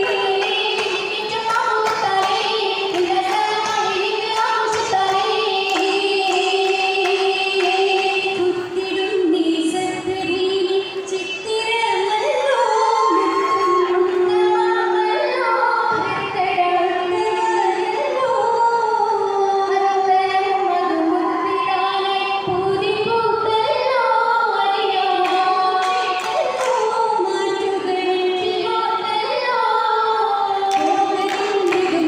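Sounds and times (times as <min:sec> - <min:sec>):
girls singing into microphones: 0:00.0 - 0:32.0.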